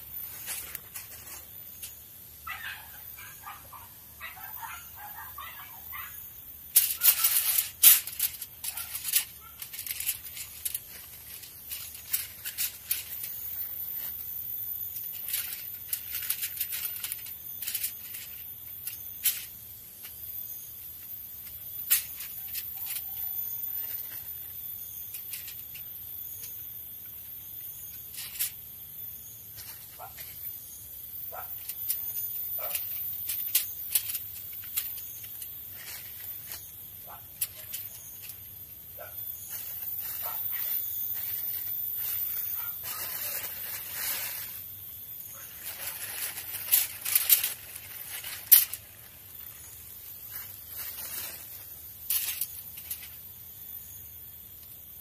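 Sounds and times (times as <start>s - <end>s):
plastic bag rustling and crackling: 0.0s - 2.0s, 6.6s - 28.7s, 31.4s - 53.4s
aluminium foil crinkling: 0.1s - 3.6s, 4.2s - 28.7s, 29.3s - 53.6s.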